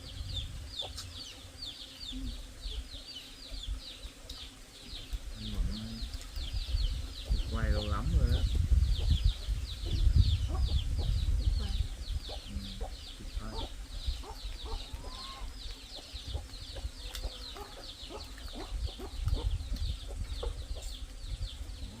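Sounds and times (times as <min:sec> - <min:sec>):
chickens clucking: 0:00.6 - 0:21.0.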